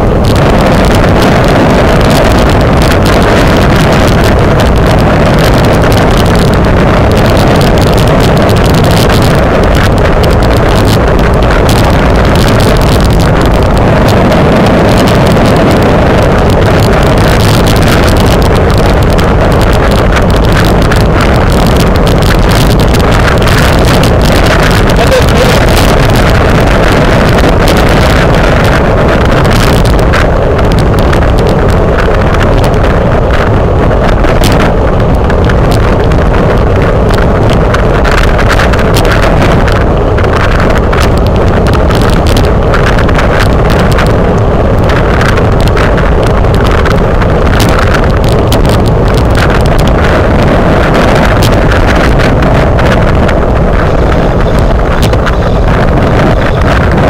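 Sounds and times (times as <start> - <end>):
knocks and rattles from road: 0.0 - 57.0
wind rush over microphone: 0.0 - 57.0.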